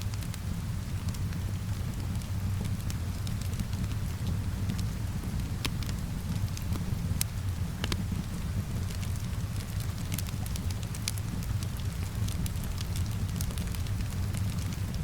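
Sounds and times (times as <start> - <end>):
steady rain: 0.0 - 15.0
wood fire crackling and popping: 0.1 - 15.0.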